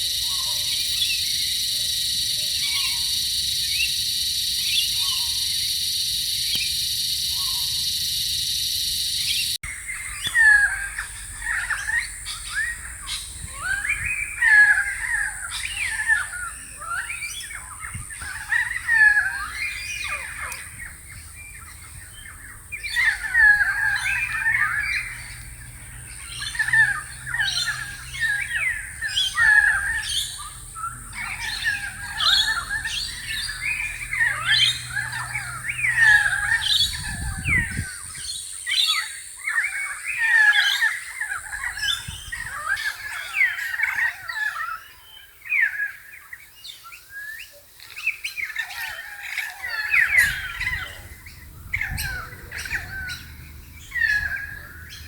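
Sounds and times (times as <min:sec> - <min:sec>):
wild birds chirping: 0:00.0 - 0:55.0.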